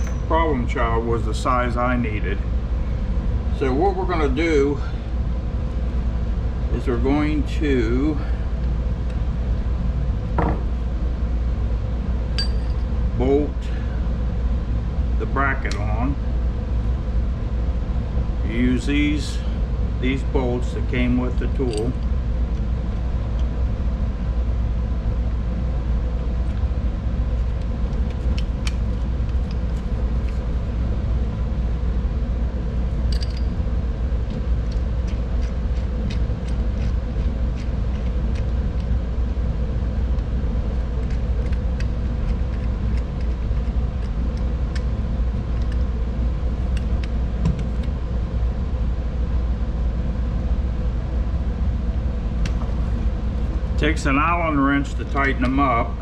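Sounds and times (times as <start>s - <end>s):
low workshop rumble: 0.0s - 56.0s.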